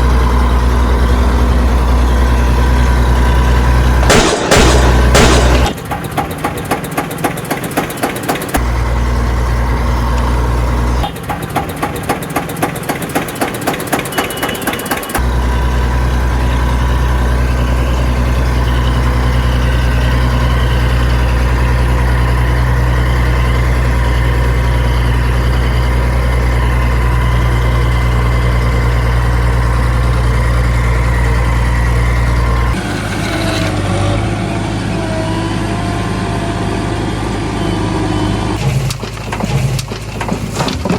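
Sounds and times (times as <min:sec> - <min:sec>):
diesel machinery engine running: 0:00.0 - 0:40.9.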